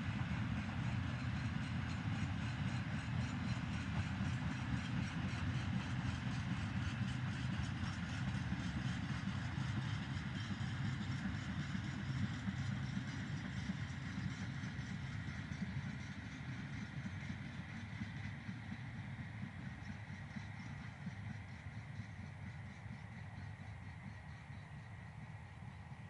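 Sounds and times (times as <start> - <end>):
train wheels rolling on rail: 0.0 - 26.0.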